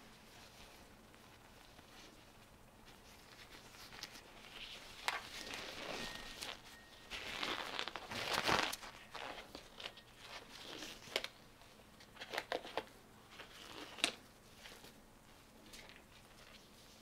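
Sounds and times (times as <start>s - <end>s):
rubber glove rustling and stretching: 0.0s - 17.0s.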